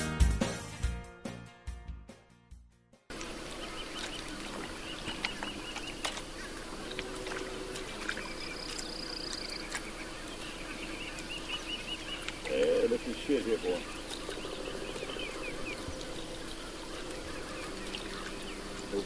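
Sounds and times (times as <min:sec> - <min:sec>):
outdoor ambience: 0:03.1 - 0:19.0
bird chirping: 0:03.2 - 0:19.0.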